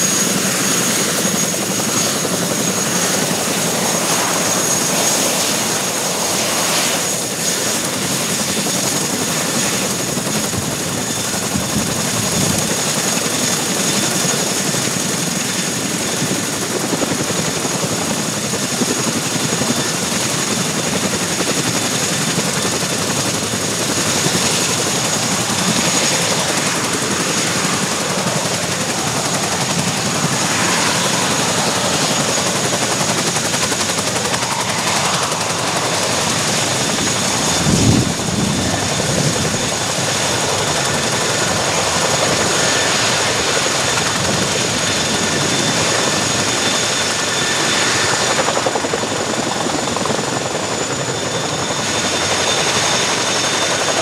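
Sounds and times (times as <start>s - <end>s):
helicopter rotor noise: 0.0s - 54.0s
high turbine whine: 0.0s - 54.0s.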